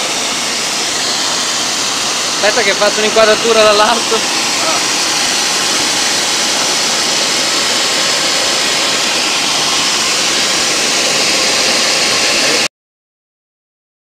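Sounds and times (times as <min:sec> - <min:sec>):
grinding machine hiss: 0:00.0 - 0:12.7.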